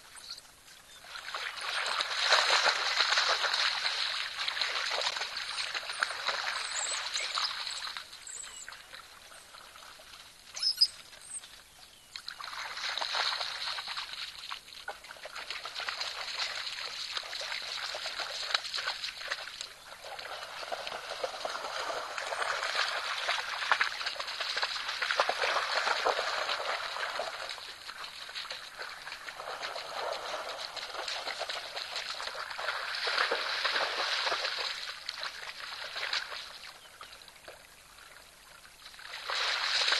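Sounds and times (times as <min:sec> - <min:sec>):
water splashing and sloshing: 0:00.9 - 0:39.9.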